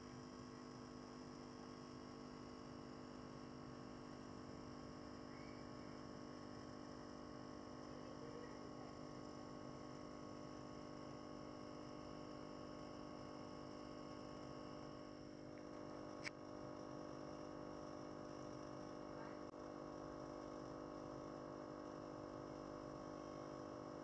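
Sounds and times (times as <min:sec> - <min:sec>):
electrical hum with held tones: 0:00.0 - 0:24.0.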